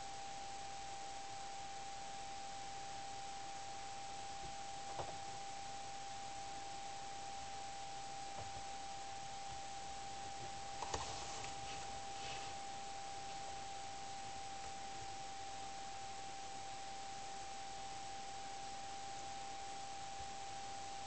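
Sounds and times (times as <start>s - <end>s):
constant hiss: 0.0s - 21.0s.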